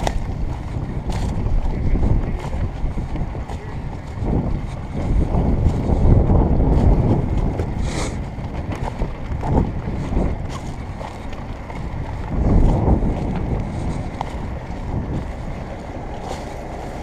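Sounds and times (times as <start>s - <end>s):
dirt bike engine at low revs: 0.0s - 17.0s
wind buffeting microphone: 0.0s - 17.0s.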